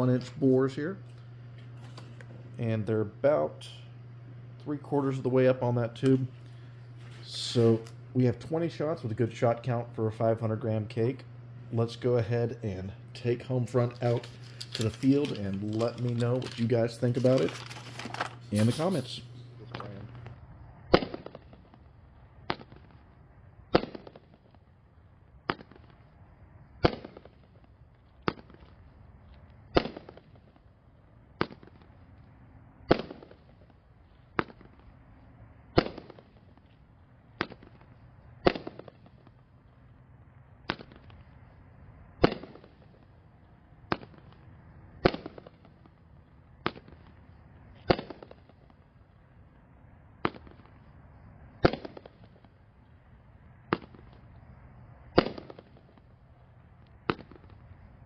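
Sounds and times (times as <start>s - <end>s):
firework shots: 0.0s - 58.0s.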